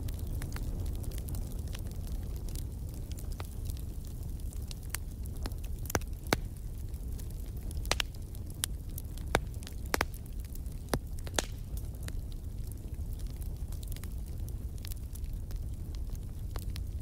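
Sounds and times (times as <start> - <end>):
crackles and pops of burning logs: 0.0 - 17.0
fire rumbling: 0.0 - 17.0.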